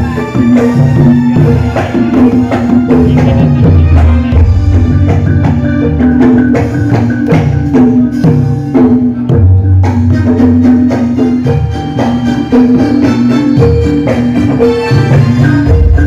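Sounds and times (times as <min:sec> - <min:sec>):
gamelan ensemble over loudspeakers: 0:00.0 - 0:16.0
hand drums: 0:00.0 - 0:16.0.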